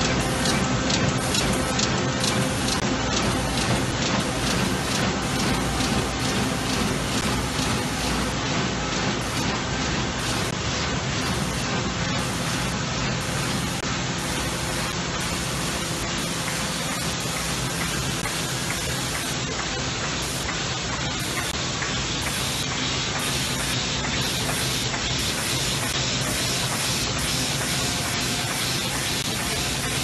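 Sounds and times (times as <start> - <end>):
printing press running: 0.0 - 30.0.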